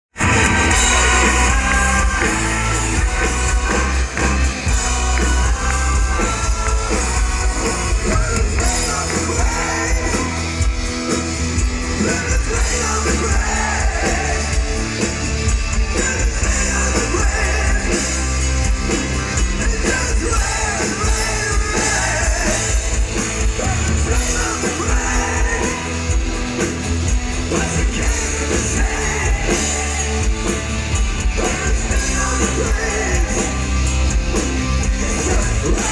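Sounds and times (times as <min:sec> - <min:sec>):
heavy rock band playing: 0:00.1 - 0:35.9
person singing: 0:00.2 - 0:15.1, 0:15.7 - 0:26.7, 0:27.3 - 0:35.9.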